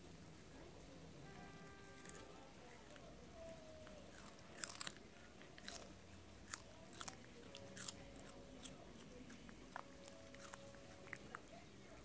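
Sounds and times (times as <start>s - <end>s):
cat crunching raw potato: 1.9s - 12.0s.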